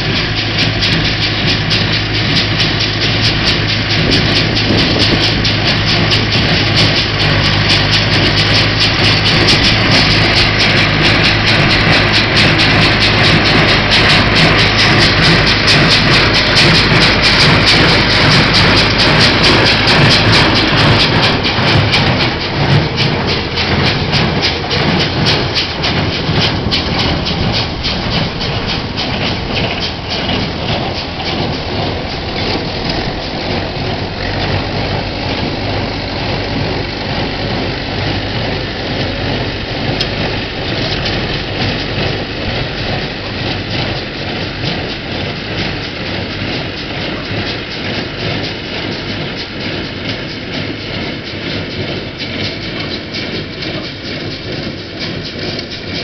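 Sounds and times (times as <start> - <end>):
baler mechanism clattering: 0.0 - 56.0
tractor diesel engine running: 0.0 - 56.0.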